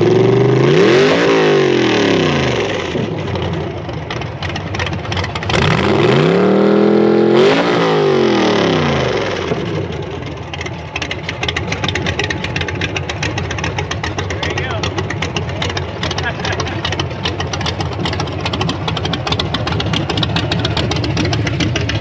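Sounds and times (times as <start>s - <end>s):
truck engine revving: 0.0s - 22.0s
truck engine idling: 2.2s - 7.3s, 8.1s - 22.0s.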